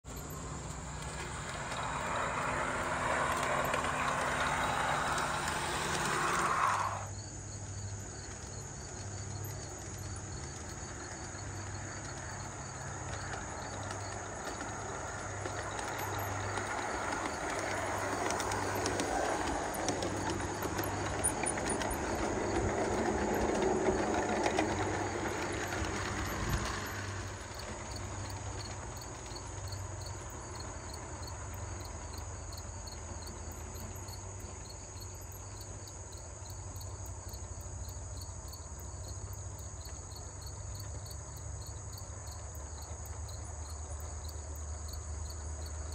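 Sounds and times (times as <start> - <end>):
model train wheels clicking: 0.1 - 45.9.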